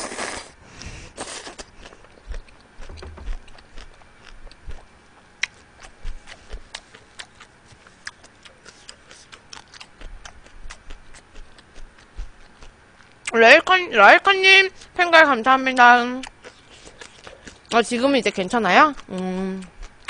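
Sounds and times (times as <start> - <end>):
wet chewing and crunching: 1.2 - 13.4, 14.7 - 20.0.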